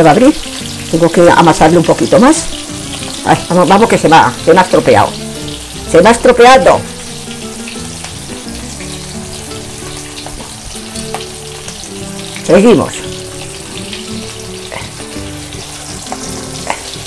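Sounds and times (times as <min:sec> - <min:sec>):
patties sizzling in hot oil: 0:00.0 - 0:17.0.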